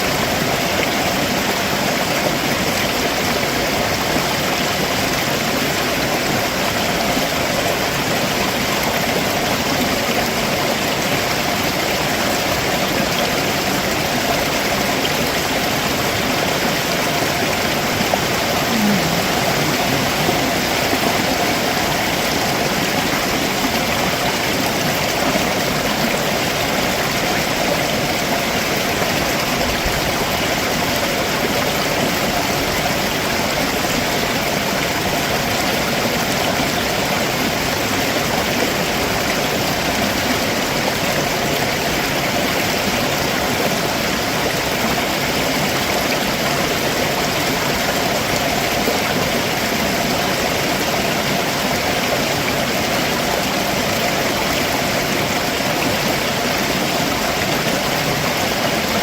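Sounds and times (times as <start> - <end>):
stream splashing over rocks: 0.0 - 59.0.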